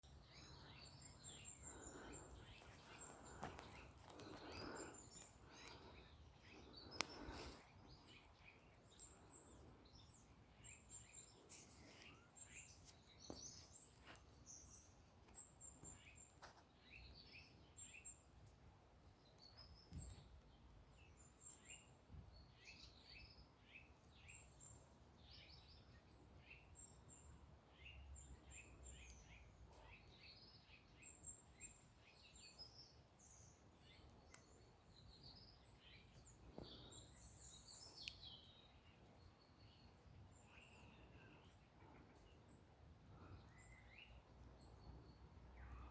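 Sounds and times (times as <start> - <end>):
birds chirping and trilling: 0.0 - 18.3, 19.3 - 45.9.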